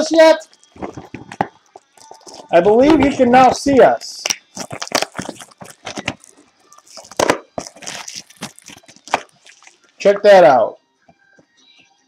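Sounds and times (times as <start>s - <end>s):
handling cards and packaging: 0.3s - 10.0s.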